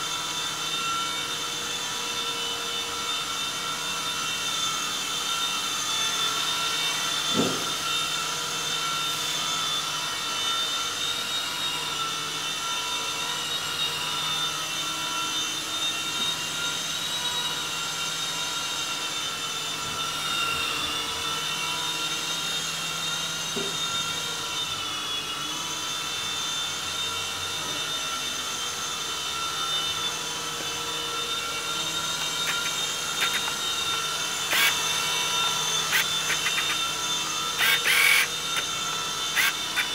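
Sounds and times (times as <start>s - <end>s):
toy helicopter rotors whining: 0.0s - 39.9s.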